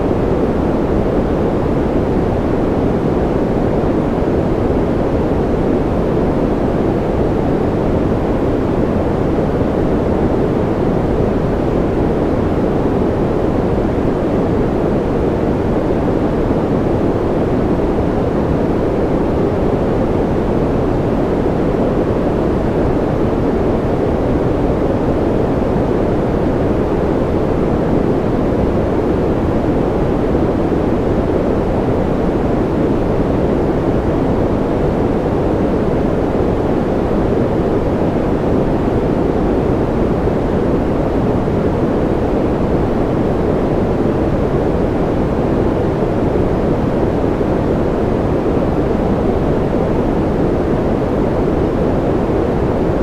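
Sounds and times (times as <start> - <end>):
deep white noise rush: 0.0 - 53.0.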